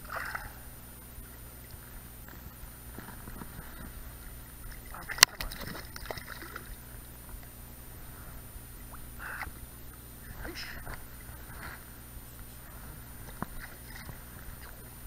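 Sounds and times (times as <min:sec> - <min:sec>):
water sloshing and lapping: 0:00.0 - 0:15.0.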